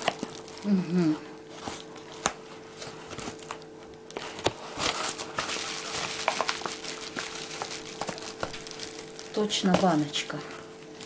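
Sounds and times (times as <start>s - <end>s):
padded mailer crinkling: 0.0s - 0.8s, 1.4s - 11.0s.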